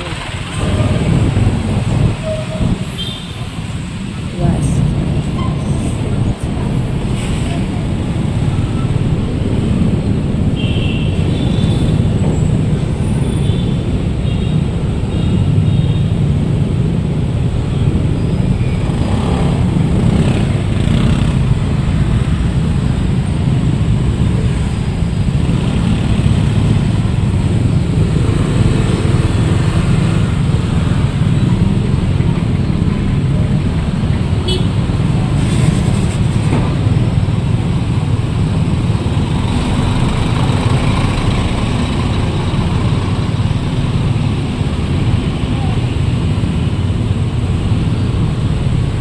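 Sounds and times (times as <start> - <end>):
dense traffic engine rumble: 0.0 - 49.0.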